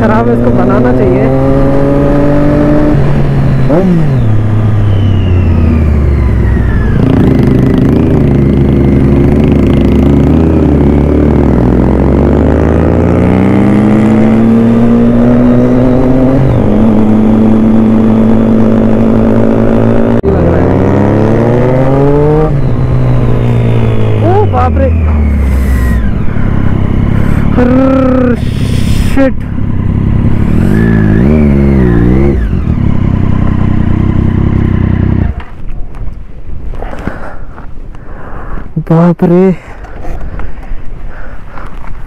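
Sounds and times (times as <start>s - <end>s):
motorcycle engine revving: 0.0s - 35.6s.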